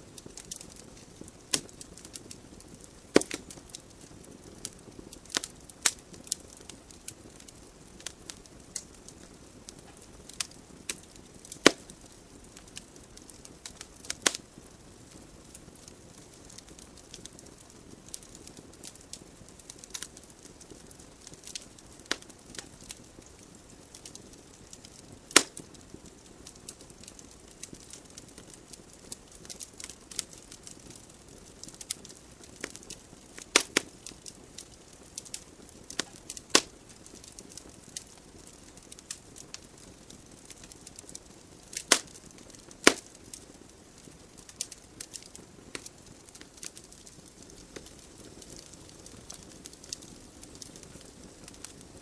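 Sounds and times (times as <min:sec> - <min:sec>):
wood logs crackling in fireplace: 0:00.0 - 0:52.0.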